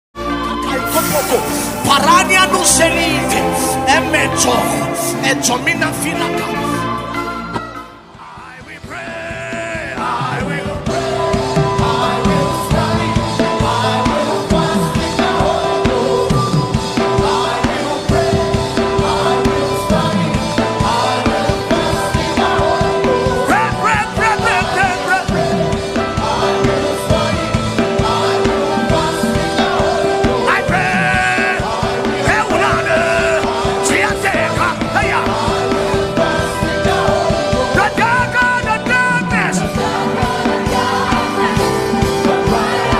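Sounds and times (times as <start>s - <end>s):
singing voices: 0.2s - 42.9s
band with drum kit playing: 0.7s - 42.9s.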